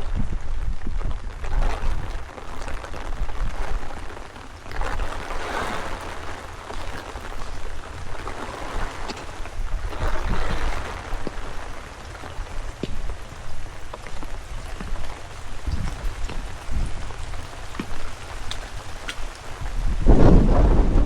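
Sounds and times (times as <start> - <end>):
rain falling: 0.0 - 21.0
wind buffeting microphone: 0.0 - 21.0.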